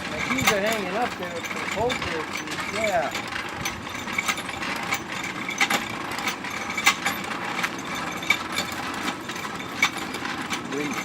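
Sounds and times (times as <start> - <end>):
hand tools striking metal: 0.0 - 11.0
steady mechanical hum: 0.0 - 11.0.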